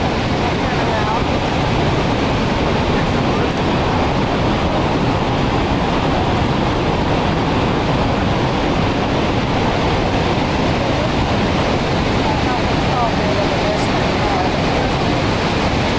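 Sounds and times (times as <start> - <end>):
waterfall roaring: 0.0 - 15.9.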